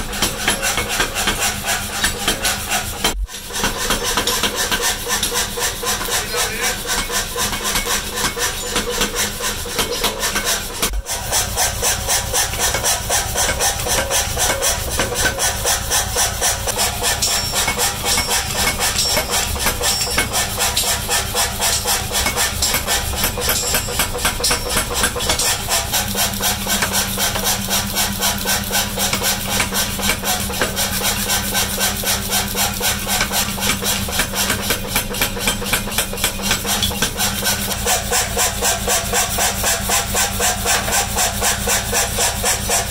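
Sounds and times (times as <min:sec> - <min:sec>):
power hammer striking metal: 0:00.0 - 0:42.9.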